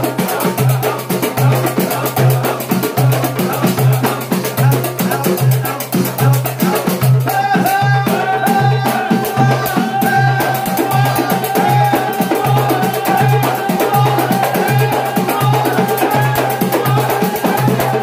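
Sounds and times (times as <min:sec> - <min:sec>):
large frame drum beat: 0:00.0 - 0:18.0
men chanting in unison: 0:00.0 - 0:18.0
small hand drums clattering: 0:00.0 - 0:18.0.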